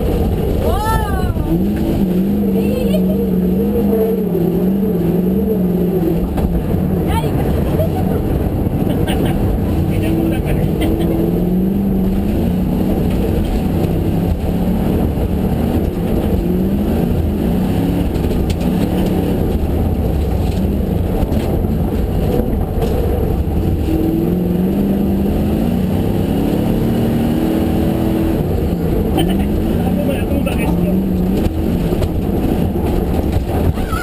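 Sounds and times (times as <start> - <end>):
car engine revving: 0.0 - 34.0
road and tyre rumble: 0.0 - 34.0.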